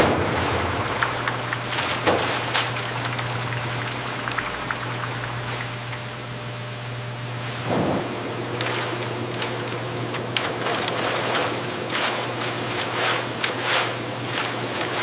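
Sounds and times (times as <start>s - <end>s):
hot oil sizzling and crackling: 0.0s - 15.0s
low machine hum: 0.0s - 15.0s.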